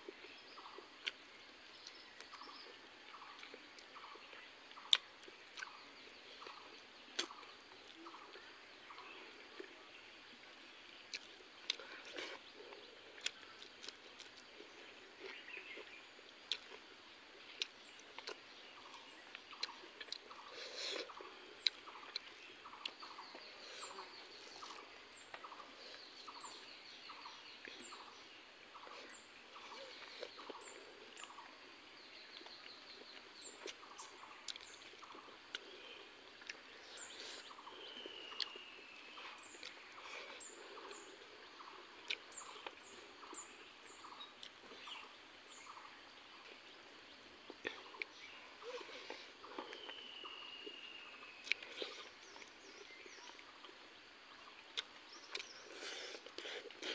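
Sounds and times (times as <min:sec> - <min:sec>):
mouth clicks and smacks chewing: 0:00.1 - 0:09.8, 0:10.9 - 0:28.1, 0:28.8 - 0:45.0, 0:47.4 - 0:50.0, 0:50.6 - 0:53.9, 0:54.5 - 0:56.9.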